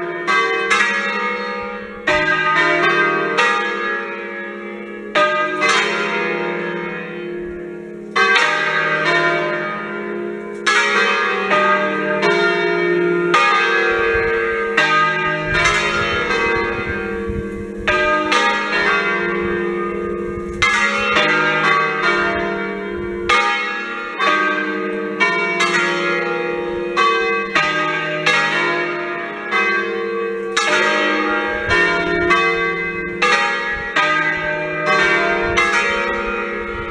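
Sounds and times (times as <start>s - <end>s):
continuous bell hum: 0.0s - 36.9s
swinging church bells ringing: 0.0s - 36.9s.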